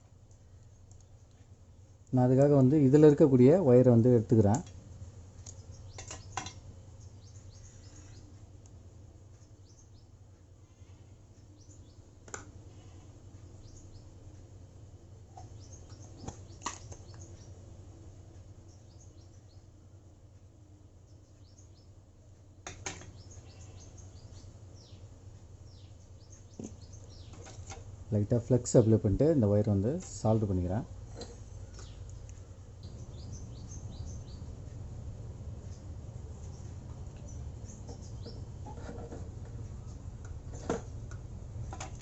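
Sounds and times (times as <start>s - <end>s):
small birds chirping: 0.0s - 42.0s
steady low hum: 0.0s - 42.0s.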